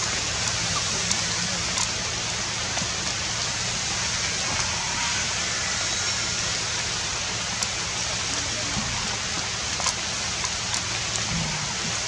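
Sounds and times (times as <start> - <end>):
steady rain hissing: 0.0 - 12.0.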